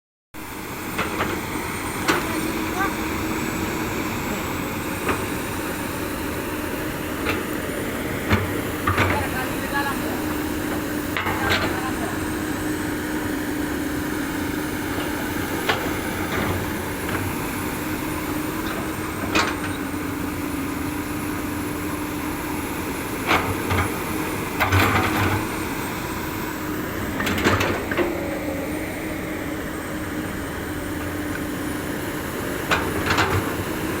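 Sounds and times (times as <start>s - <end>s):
excavator diesel engine running: 0.4s - 34.0s.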